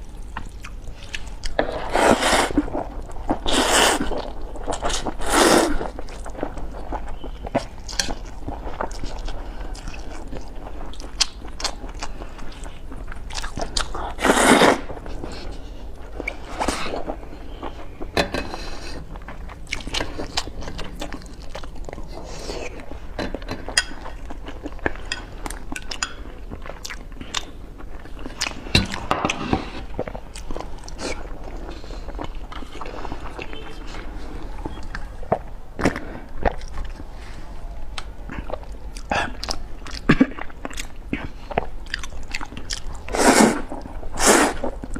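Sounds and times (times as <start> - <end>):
person chewing noodles: 0.0 - 44.9.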